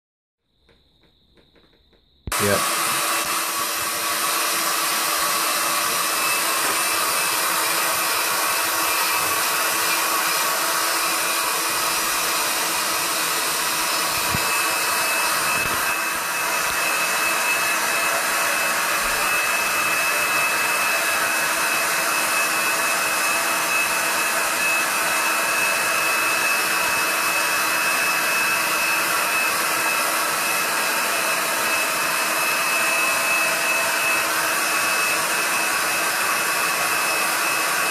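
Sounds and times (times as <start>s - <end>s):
heat gun fan whine: 0.6s - 37.9s.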